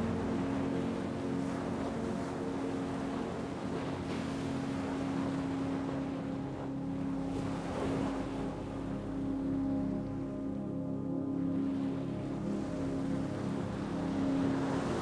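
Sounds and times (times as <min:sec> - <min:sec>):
low even hum: 0:00.0 - 0:15.0.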